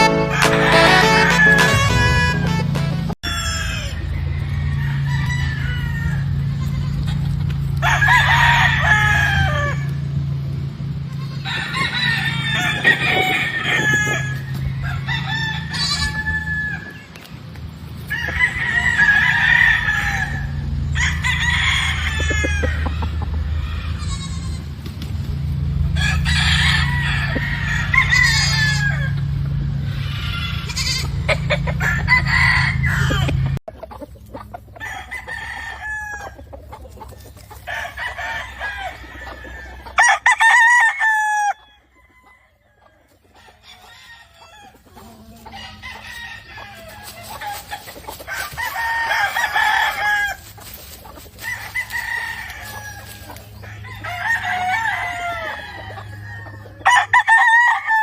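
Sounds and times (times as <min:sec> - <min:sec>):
hens clucking: 0:00.0 - 0:58.0
roosters crowing: 0:00.0 - 0:58.0.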